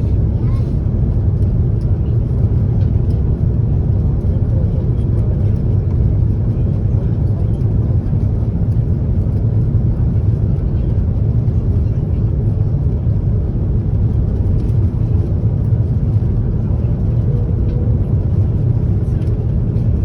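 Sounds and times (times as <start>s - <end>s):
airflow along fuselage: 0.0s - 20.0s
airliner cabin engine rumble: 0.0s - 20.0s.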